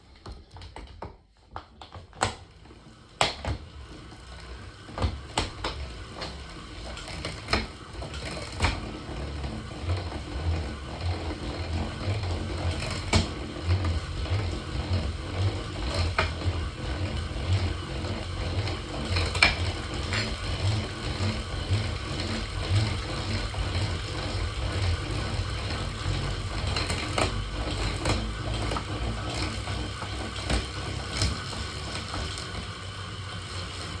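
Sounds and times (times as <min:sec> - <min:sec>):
bicycle drivetrain clicking: 0:01.6 - 0:34.0.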